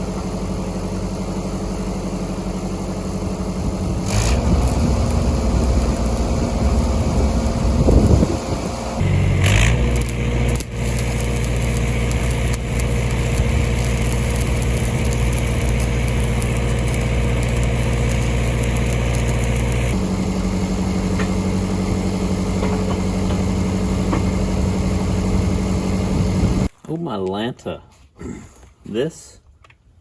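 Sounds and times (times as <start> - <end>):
welder engine running: 0.0 - 26.7.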